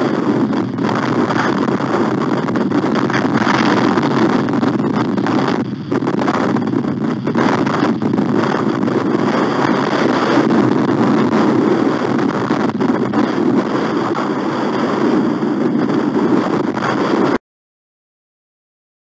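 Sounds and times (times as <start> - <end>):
wind blowing across microphone: 0.0 - 17.4.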